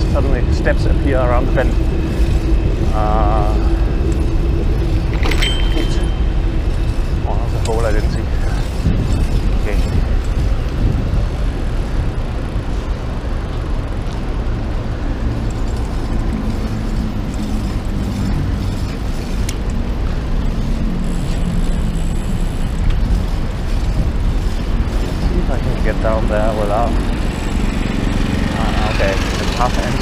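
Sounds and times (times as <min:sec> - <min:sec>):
bicycle riding noise: 0:00.0 - 0:30.0
city traffic rumble: 0:00.0 - 0:30.0
vehicle engine humming: 0:00.0 - 0:30.0.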